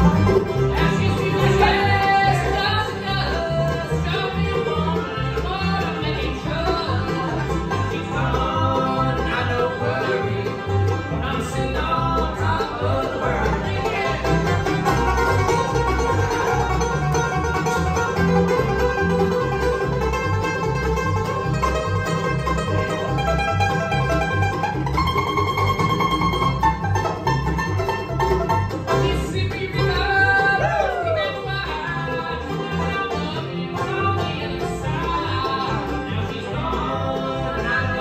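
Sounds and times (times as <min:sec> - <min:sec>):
banjo rolls: 0:00.0 - 0:38.0
guitar: 0:00.0 - 0:38.0
low bass line: 0:00.0 - 0:38.0.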